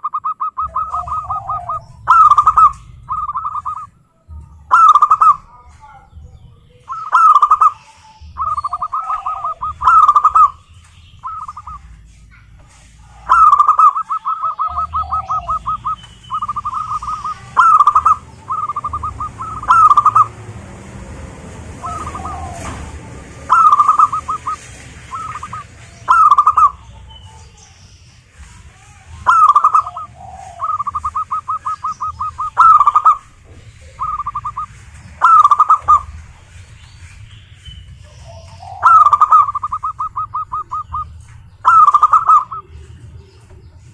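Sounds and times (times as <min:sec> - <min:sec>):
dove cooing: 0:00.0 - 0:27.8, 0:28.4 - 0:36.6, 0:37.9 - 0:43.9.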